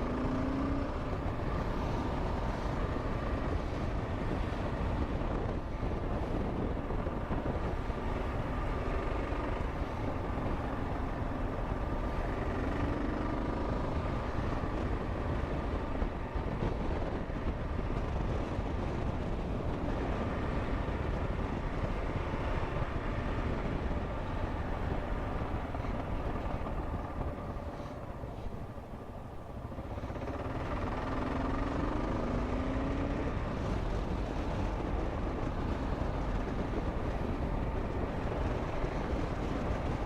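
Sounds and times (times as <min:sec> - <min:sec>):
motorcycle engine running: 0:00.0 - 0:40.0
wind and road noise: 0:00.0 - 0:40.0.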